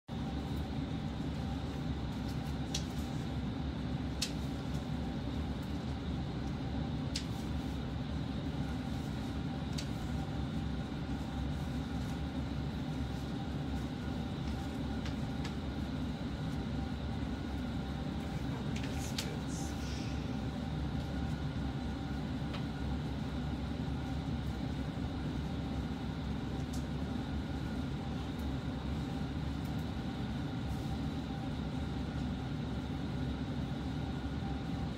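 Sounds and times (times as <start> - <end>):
faint hum: 0.1 - 34.9.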